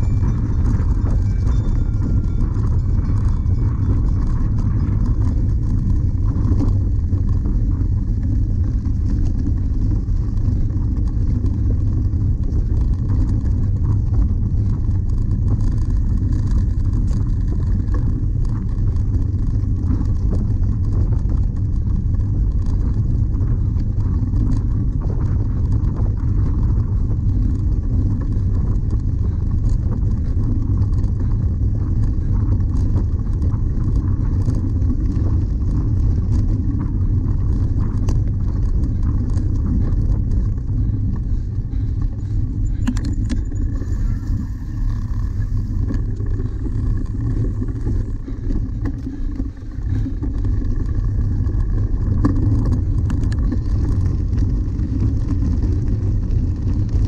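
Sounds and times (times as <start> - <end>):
bicycle clicks and rattles: 0.0 - 57.0
bicycle rolling over grass: 0.0 - 57.0
wind buffeting microphone: 0.0 - 57.0.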